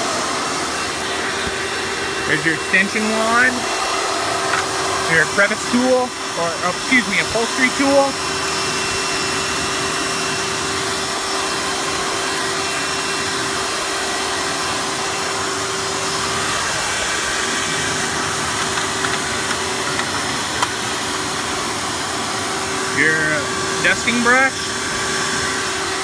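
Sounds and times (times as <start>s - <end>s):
vacuum cleaner motor running: 0.0s - 26.0s.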